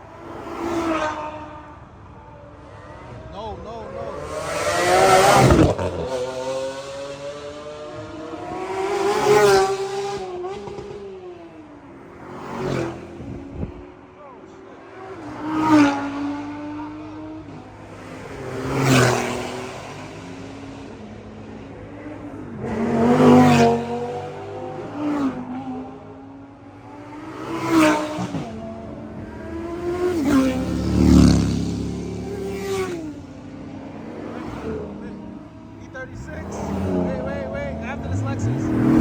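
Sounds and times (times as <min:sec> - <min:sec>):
cars driving past revving: 0:00.0 - 0:39.0.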